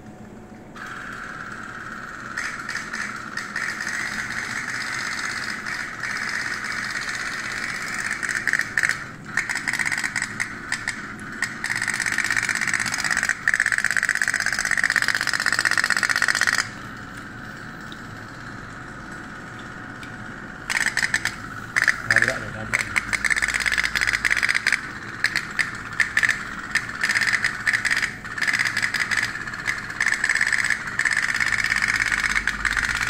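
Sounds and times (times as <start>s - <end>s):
toy steam boat engine popping: 0.8s - 16.8s, 20.7s - 33.0s.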